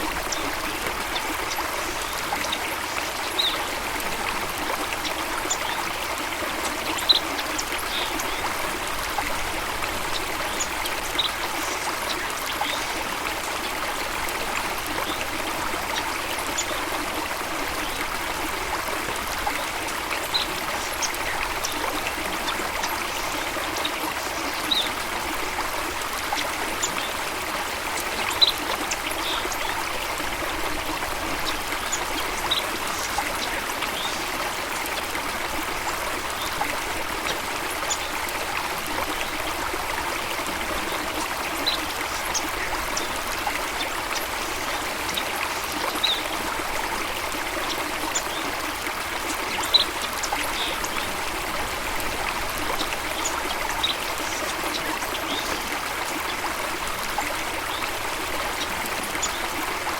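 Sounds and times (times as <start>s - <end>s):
running water flowing: 0.0s - 59.9s.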